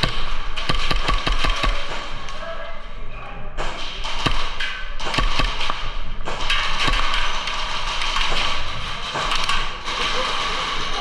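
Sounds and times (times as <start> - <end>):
airsoft gun shots: 0.0 - 2.3, 3.6 - 10.4.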